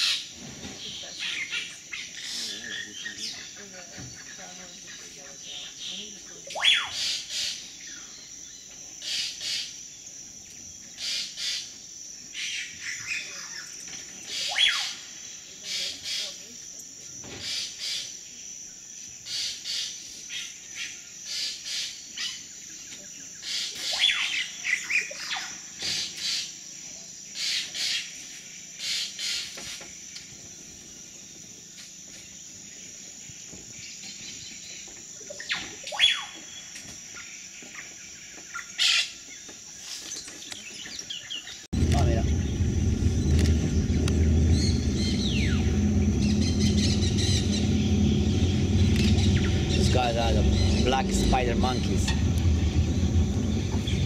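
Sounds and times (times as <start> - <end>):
birds calling: 0.0 - 16.5, 19.0 - 26.6, 32.8 - 54.0
high-pitched insect drone: 0.0 - 40.2, 41.1 - 54.0.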